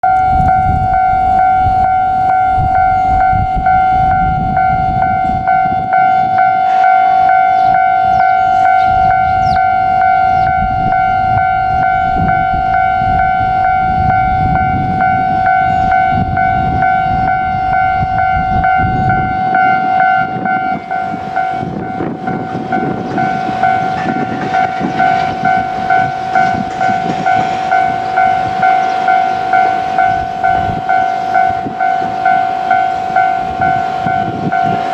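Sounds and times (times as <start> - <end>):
level crossing alarm chime: 0.0 - 34.9.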